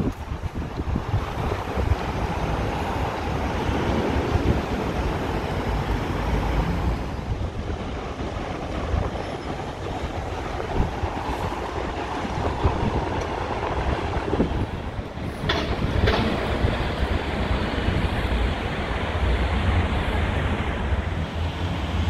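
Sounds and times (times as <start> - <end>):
low rumble of street noise: 0.0 - 22.0
wind buffeting microphone: 0.0 - 22.0.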